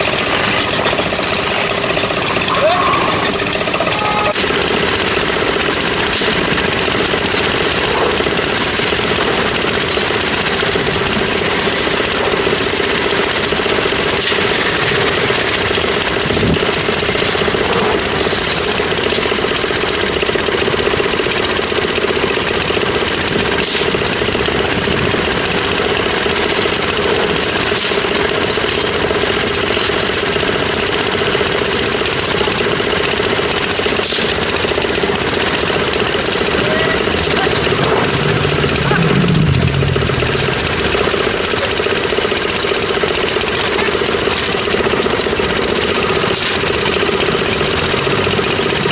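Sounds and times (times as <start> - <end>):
concrete mixer engine running: 0.0 - 48.9.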